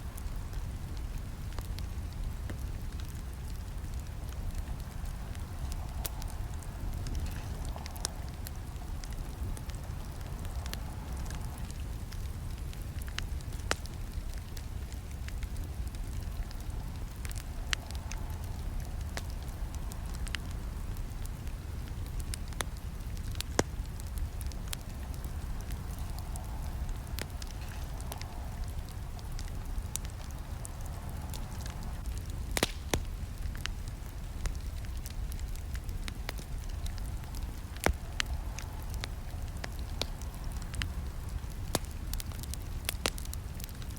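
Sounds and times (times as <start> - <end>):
low rumble of flames: 0.0 - 43.9
low rush of burning: 0.0 - 43.9
wood crackling and popping: 0.0 - 43.9.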